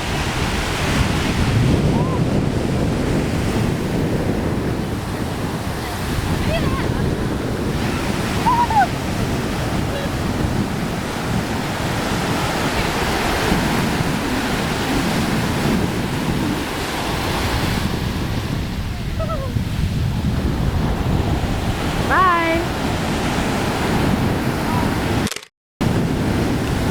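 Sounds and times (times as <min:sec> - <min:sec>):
surf breaking and washing up: 0:00.0 - 0:25.2, 0:25.8 - 0:26.9
wind buffeting microphone: 0:00.0 - 0:25.2, 0:25.8 - 0:26.9.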